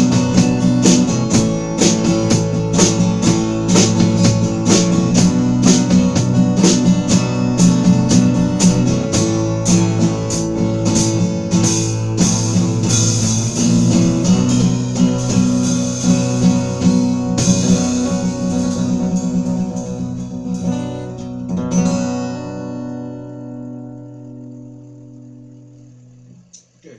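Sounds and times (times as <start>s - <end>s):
sharp percussion hits: 0.0s - 26.3s
strummed acoustic guitar: 0.0s - 26.9s.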